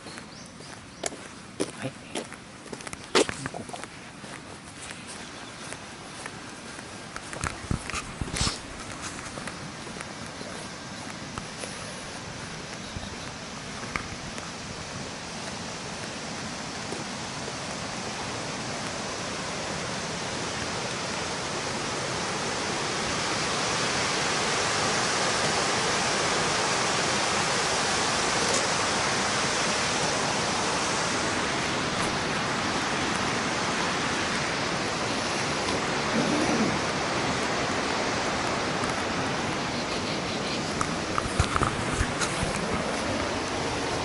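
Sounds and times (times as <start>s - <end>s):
waterfall rushing: 3.2s - 44.0s.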